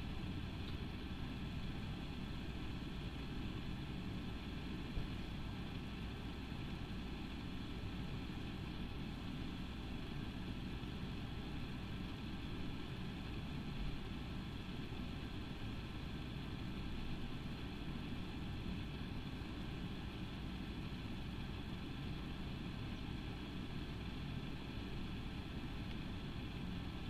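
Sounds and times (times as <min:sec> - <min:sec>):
faint hiss: 0:00.0 - 0:27.0
steady low hum: 0:00.0 - 0:27.0.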